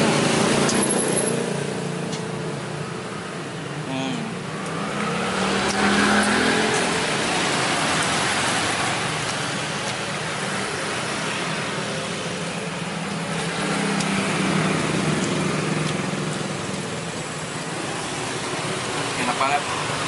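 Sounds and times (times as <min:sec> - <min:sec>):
motorbikes passing: 0:00.0 - 0:20.0
road traffic roar: 0:00.0 - 0:20.0.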